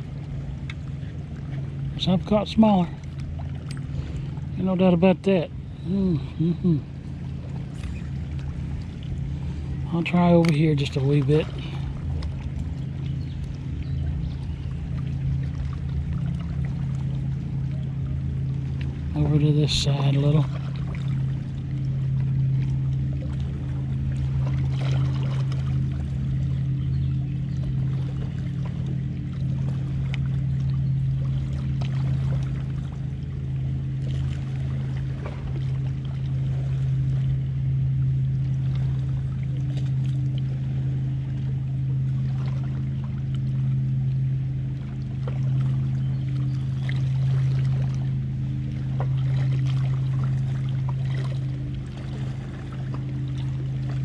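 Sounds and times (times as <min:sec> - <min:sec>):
motorboat engine drone: 0:00.0 - 0:54.0
waves lapping rocky shore: 0:00.0 - 0:54.0.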